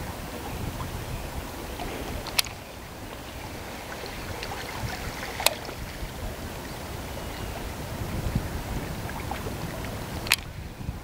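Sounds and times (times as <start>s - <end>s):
water lapping at quay: 0.0s - 11.0s
wind rumble: 0.0s - 11.0s.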